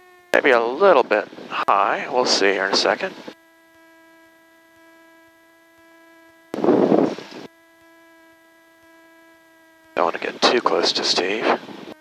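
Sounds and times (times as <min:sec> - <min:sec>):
electrical hum in headset: 0:00.0 - 0:12.0.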